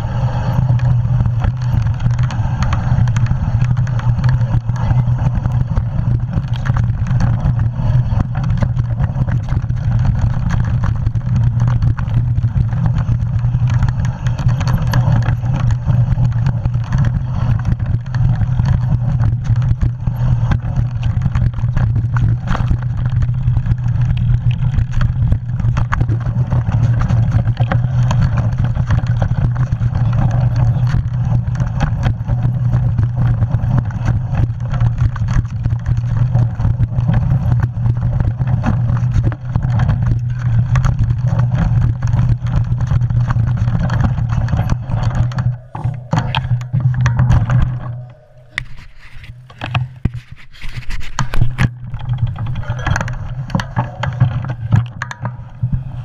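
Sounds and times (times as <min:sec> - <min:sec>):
bike clicking and rattling: 0:00.0 - 0:56.0
knobby tyres rolling on dirt: 0:00.0 - 0:56.0
wind buffeting microphone: 0:00.0 - 0:56.0.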